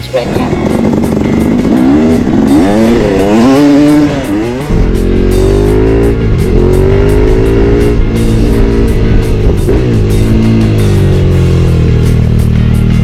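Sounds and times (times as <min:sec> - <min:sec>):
motorcycle engine revving: 0:00.0 - 0:13.0
rock music: 0:00.0 - 0:13.0.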